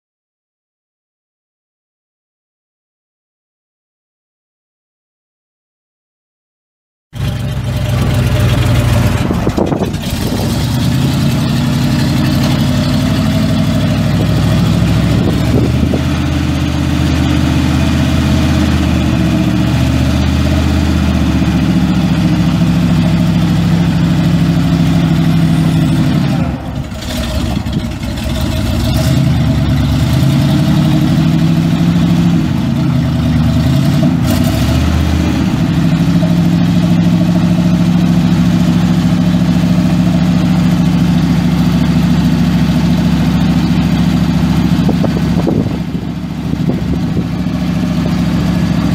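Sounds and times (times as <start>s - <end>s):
truck engine running: 7.2s - 48.9s.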